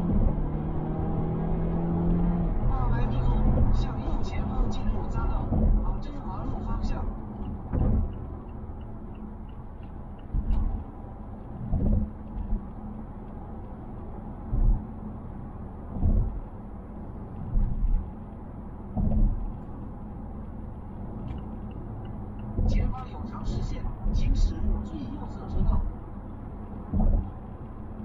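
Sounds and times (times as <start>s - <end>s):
low thuds over bumps: 0.0s - 24.8s, 25.5s - 28.0s
road and engine rumble: 0.0s - 28.0s.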